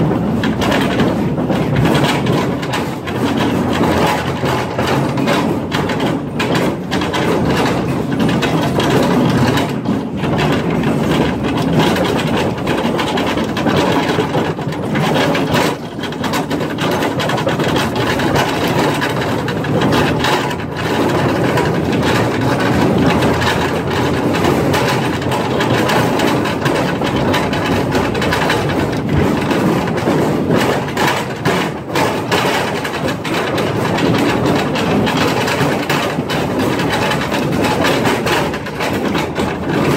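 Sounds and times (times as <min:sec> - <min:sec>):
train cars rattling on rails: 0:00.0 - 0:39.9.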